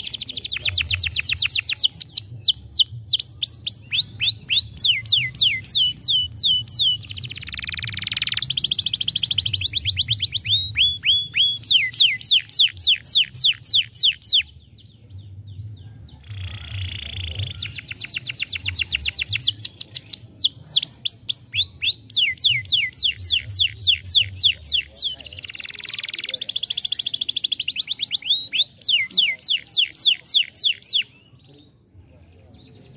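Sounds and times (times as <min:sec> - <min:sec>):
canary buzzy trills: 0:00.0 - 0:14.5, 0:16.2 - 0:31.1.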